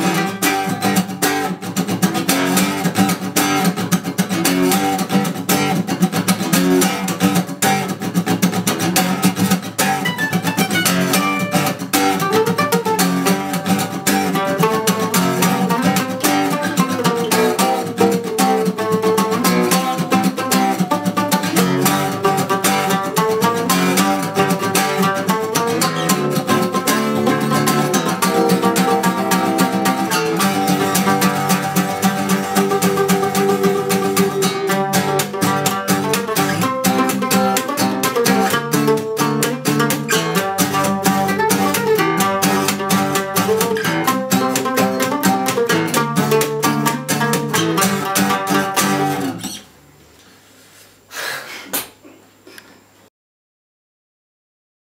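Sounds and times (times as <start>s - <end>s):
mandolin picking: 0.0s - 49.6s
acoustic guitar strumming: 0.0s - 49.7s.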